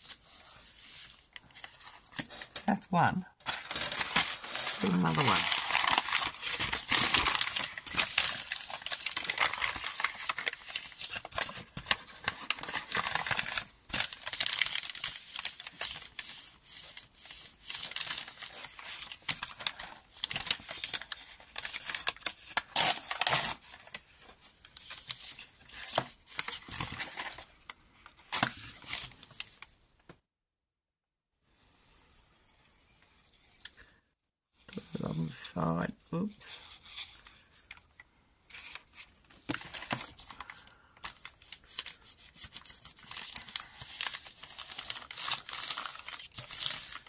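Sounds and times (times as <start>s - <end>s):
paper crinkling and rustling: 0.0s - 2.6s, 3.4s - 29.7s, 36.6s - 47.0s.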